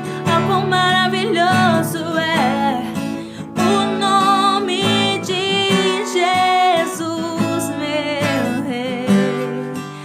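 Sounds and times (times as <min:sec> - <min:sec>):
strummed acoustic guitar: 0:00.0 - 0:10.0
woman singing: 0:00.0 - 0:10.0.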